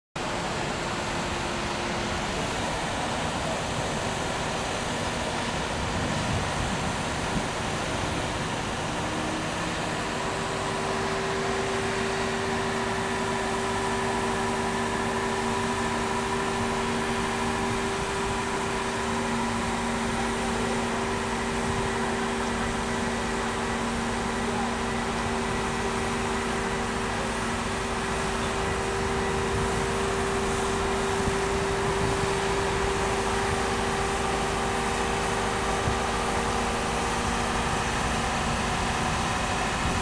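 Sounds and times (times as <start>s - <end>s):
crane machinery hum: 0.2s - 40.0s
steady whining tones: 0.2s - 40.0s.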